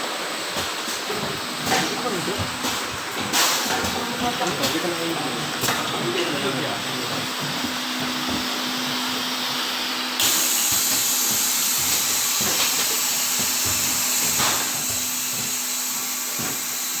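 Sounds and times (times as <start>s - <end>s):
filling machine humming: 0.0s - 17.0s
loud machine hiss: 0.0s - 17.0s.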